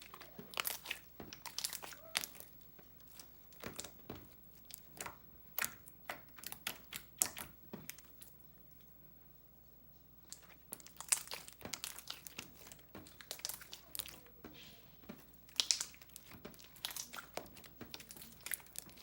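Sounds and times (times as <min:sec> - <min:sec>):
slime squished by hand: 0:00.0 - 0:08.4, 0:10.2 - 0:19.0.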